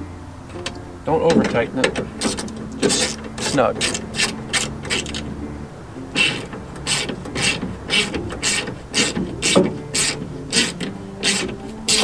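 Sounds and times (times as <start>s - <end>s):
hand ratchet clicking: 0.5s - 5.4s, 6.1s - 12.0s.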